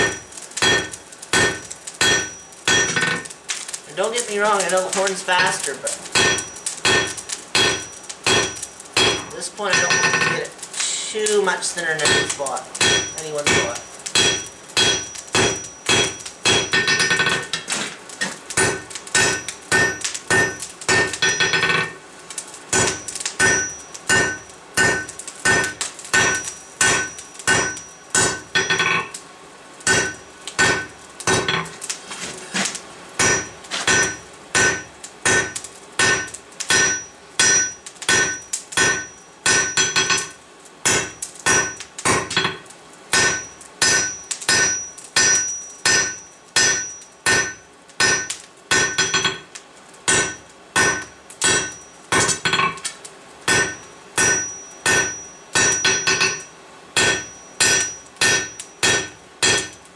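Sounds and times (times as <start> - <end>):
hammer striking steel on anvil: 0.0 - 3.3, 5.0 - 10.5, 12.0 - 17.7, 18.6 - 22.0, 22.7 - 29.2, 29.9 - 31.7, 33.2 - 49.5, 50.1 - 59.8.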